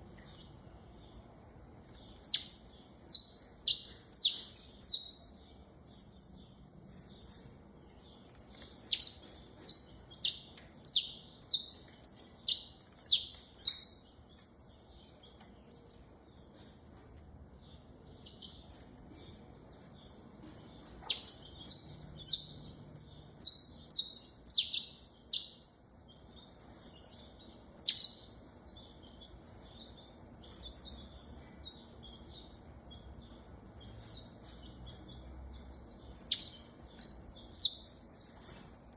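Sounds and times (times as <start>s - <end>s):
finch singing: 0.1s - 16.8s, 17.6s - 38.9s.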